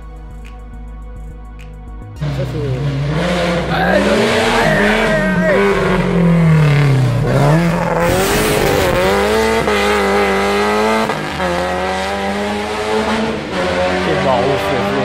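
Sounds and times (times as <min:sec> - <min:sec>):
race car engine revving: 0:02.2 - 0:15.0.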